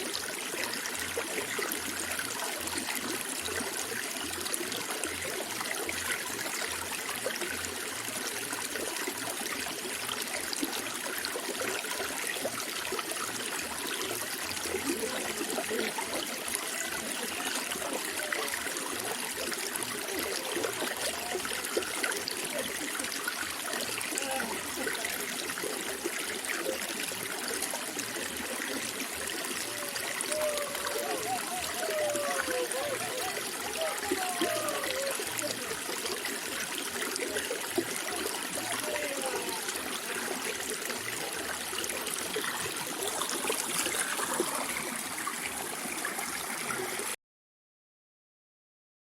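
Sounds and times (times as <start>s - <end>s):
water trickling and burbling: 0.0s - 47.2s.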